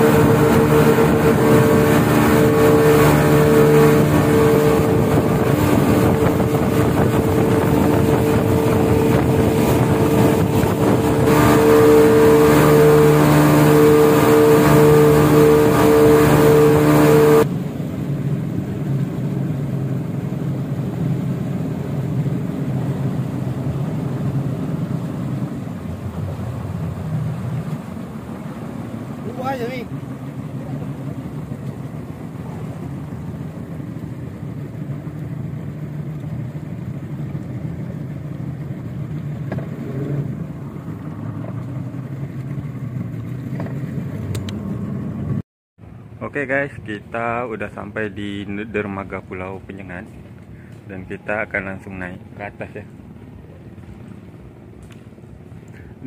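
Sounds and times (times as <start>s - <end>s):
boat engine running: 0.0s - 56.0s
rush of wind and water: 0.0s - 56.0s.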